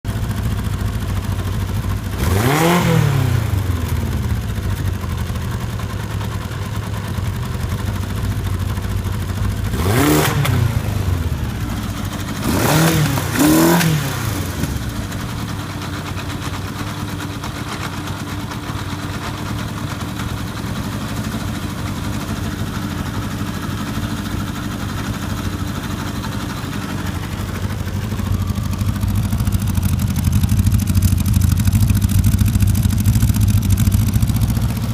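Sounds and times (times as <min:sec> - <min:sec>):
engine idling and revving: 0:00.0 - 0:34.9.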